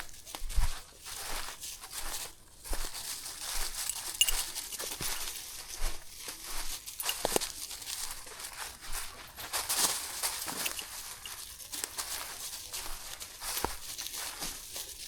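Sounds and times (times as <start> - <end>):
foliage brushing: 0.0 - 15.0
footsteps crunching on a path: 0.0 - 15.0.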